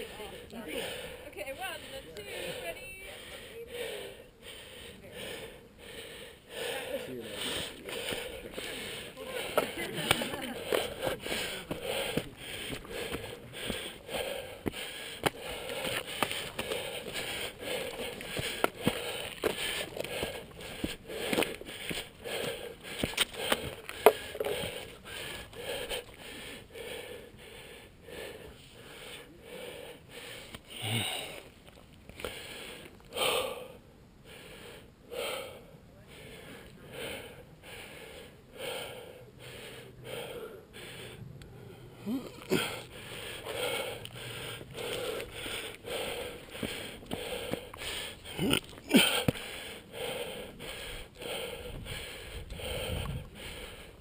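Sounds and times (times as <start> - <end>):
person breathing heavily: 0.0 - 31.6, 32.2 - 54.0.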